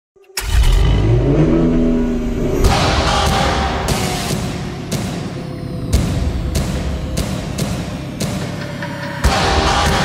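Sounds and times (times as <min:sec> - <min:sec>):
electronic bass music rumble: 0:00.6 - 0:10.0.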